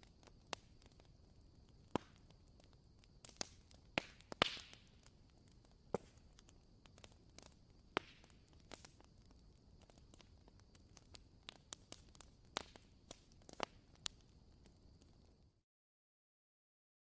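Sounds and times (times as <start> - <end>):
wooden wick candle crackling: 0.0 - 15.5
faint steady hiss: 0.0 - 15.6.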